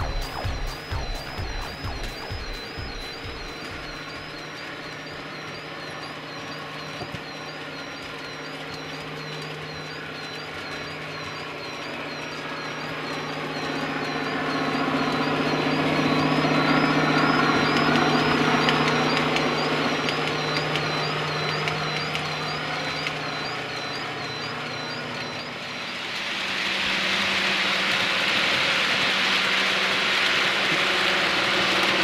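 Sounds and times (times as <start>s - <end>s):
model diesel engine drone: 0.0s - 32.0s
model trains running on track: 0.0s - 32.0s.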